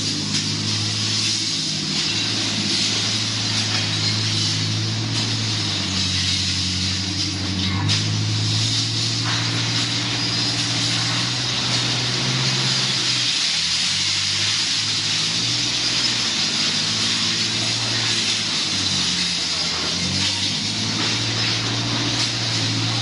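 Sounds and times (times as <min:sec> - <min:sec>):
belt conveyor machine noise: 0:00.0 - 0:23.0.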